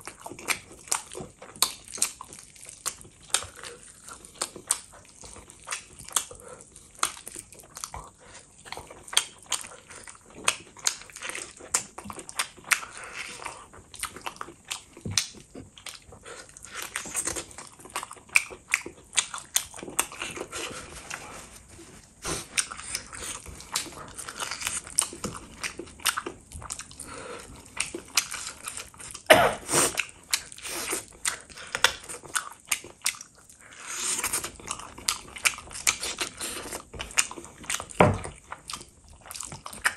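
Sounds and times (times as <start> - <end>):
close chewing and mouth-smacking: 0.0 - 39.9.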